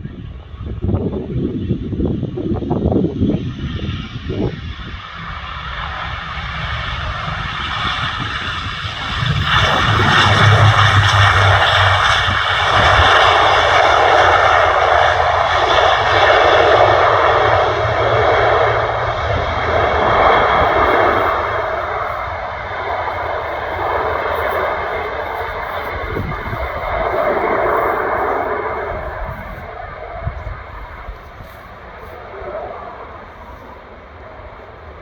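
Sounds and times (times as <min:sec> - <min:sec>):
jet engines roaring: 0:00.0 - 0:35.0
wind rumbling on microphone: 0:00.0 - 0:35.0.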